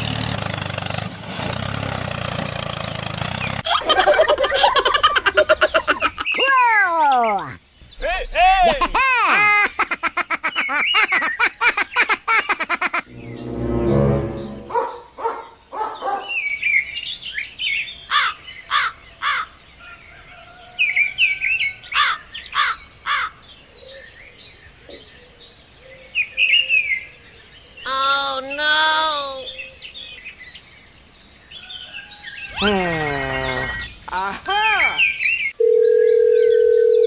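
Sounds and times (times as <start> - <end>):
songbirds chirping and twittering: 0.0 - 37.0.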